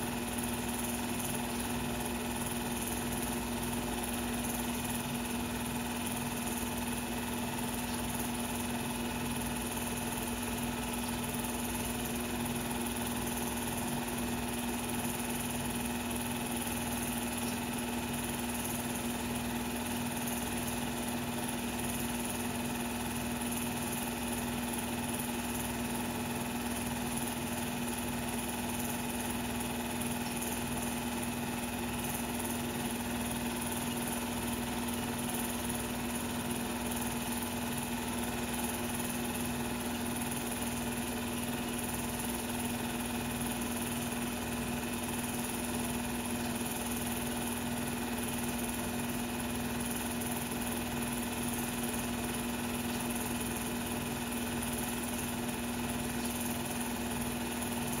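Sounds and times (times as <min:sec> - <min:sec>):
film machine humming and whirring: 0:00.0 - 0:58.0.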